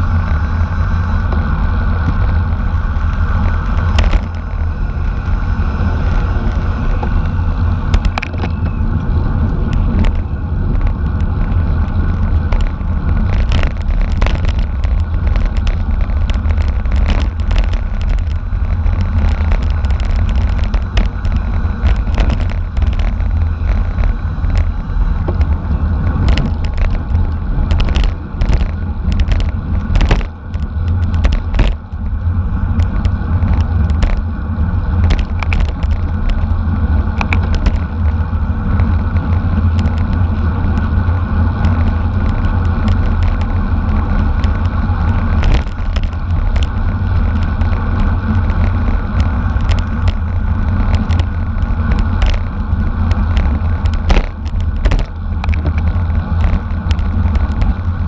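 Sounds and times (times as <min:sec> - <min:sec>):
wind rush on microphone: 0:00.0 - 0:58.0
sharp clicks and knocks: 0:01.3 - 0:05.3, 0:07.9 - 0:34.3, 0:34.9 - 0:58.0.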